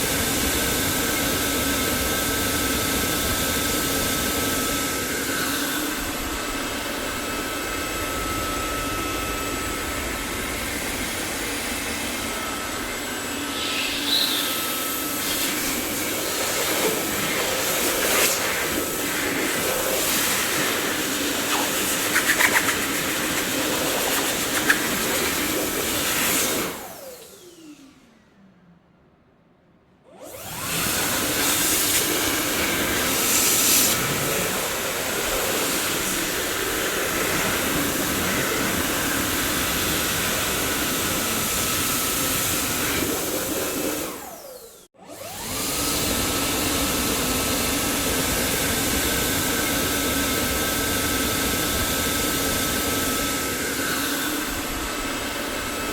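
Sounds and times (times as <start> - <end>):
vacuum cleaner running: 0.0 - 28.6, 30.1 - 55.9
vacuum motor winding down: 0.0 - 28.7, 30.1 - 55.9.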